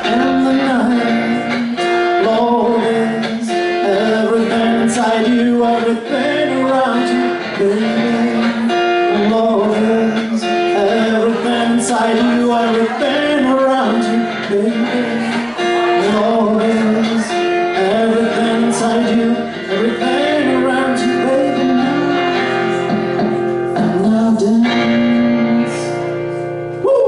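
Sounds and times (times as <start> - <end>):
song with guitar and lead melody: 0.0 - 27.0.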